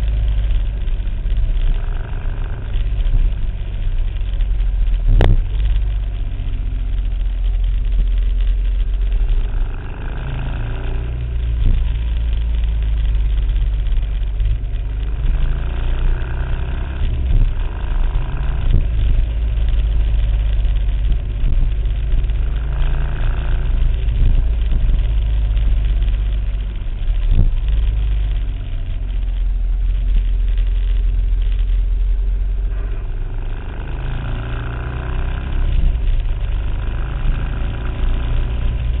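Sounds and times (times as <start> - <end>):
vehicle engine running low: 0.0 - 39.0.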